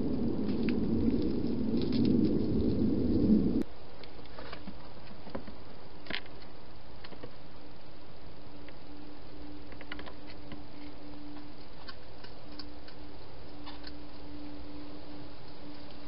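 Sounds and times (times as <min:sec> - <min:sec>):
low hum: 0:00.0 - 0:04.1, 0:04.9 - 0:16.0.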